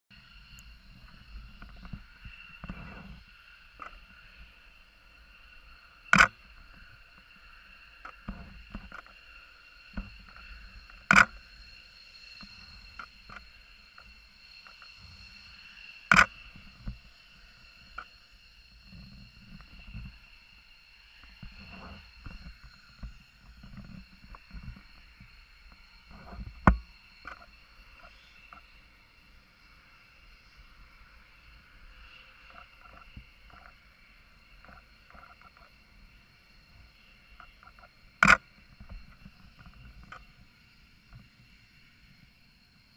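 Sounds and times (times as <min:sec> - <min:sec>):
distant jet engine whine: 0:00.1 - 0:42.9.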